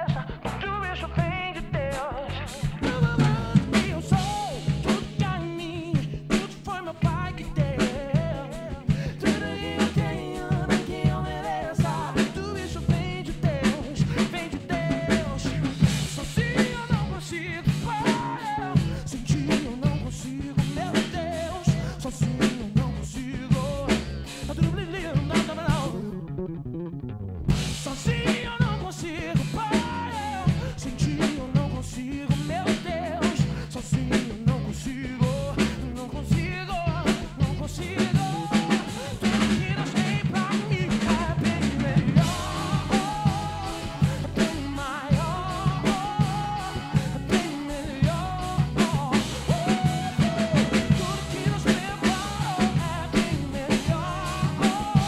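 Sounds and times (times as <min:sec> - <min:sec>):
drum kit groove: 0:00.0 - 0:26.1, 0:27.5 - 0:55.0
recorded gospel song with singing: 0:00.0 - 0:26.3, 0:27.5 - 0:55.0.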